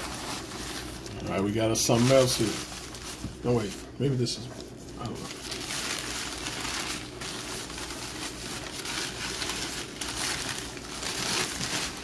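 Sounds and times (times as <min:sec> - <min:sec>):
packing paper crinkling: 0:00.0 - 0:12.0.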